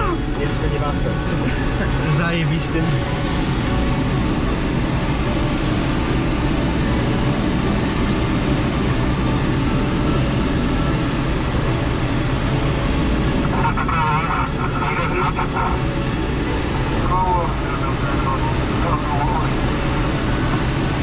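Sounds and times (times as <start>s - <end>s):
airflow rushing around glider canopy: 0.0s - 21.0s.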